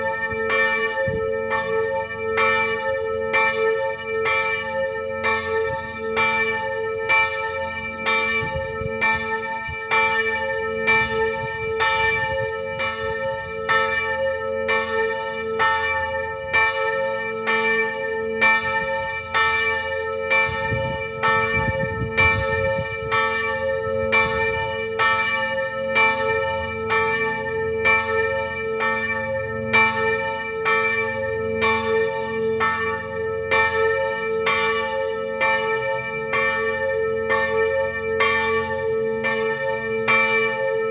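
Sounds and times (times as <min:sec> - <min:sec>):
church bells tolling: 0:00.0 - 0:40.9.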